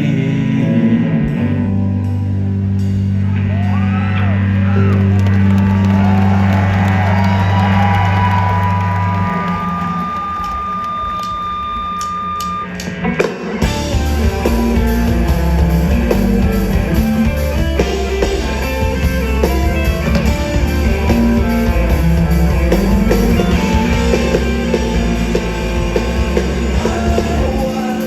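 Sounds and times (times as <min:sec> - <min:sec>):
live rock band playing: 0:04.6 - 0:28.0.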